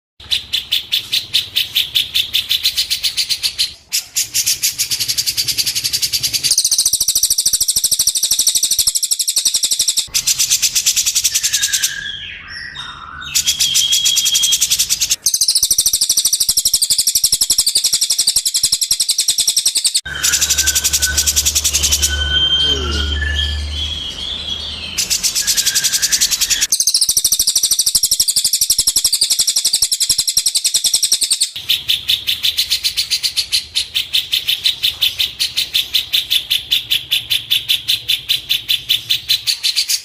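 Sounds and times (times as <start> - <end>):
songbird chattering trills: 0.2 - 40.0.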